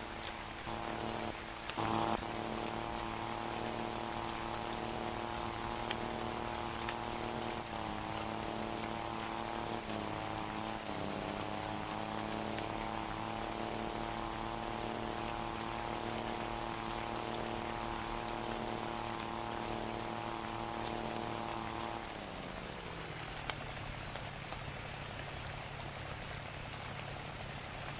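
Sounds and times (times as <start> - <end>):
truck engine running: 0.0 - 23.4.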